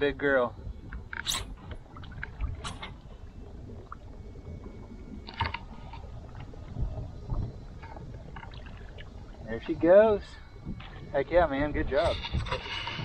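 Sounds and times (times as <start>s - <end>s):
water lapping against kayaks: 0.0s - 13.0s.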